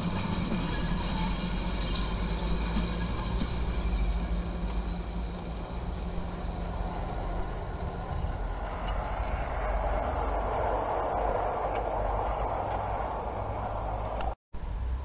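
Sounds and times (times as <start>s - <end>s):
model train wheels rumbling: 0.0s - 14.3s.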